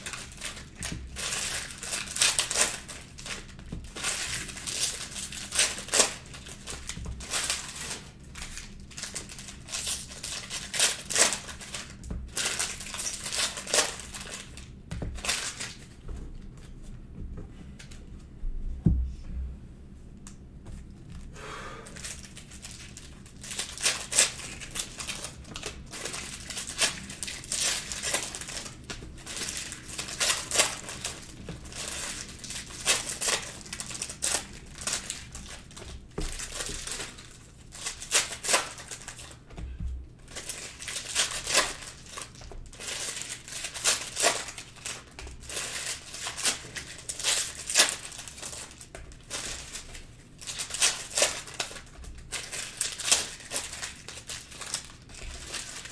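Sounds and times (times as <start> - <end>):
foil wrappers crinkling and tearing: 0.0 - 16.7, 22.0 - 39.5, 40.2 - 55.9.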